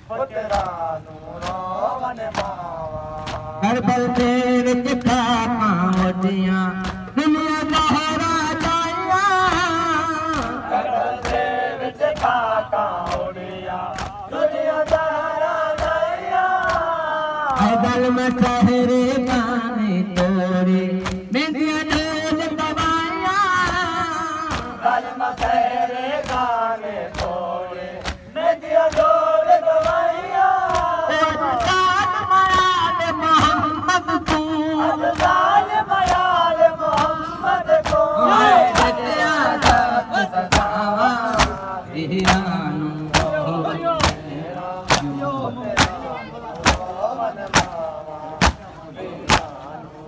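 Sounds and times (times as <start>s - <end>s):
man chanting into a microphone: 0.0s - 50.0s
chest beating slaps: 0.5s - 4.4s, 5.0s - 8.0s, 9.4s - 49.7s.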